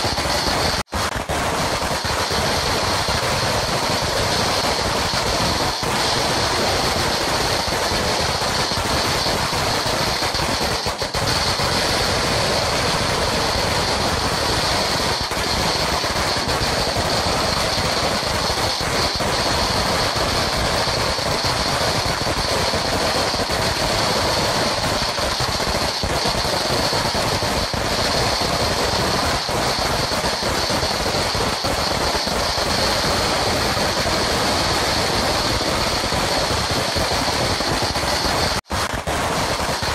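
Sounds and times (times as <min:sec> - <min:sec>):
string of firecrackers crackling: 0:00.0 - 0:39.9.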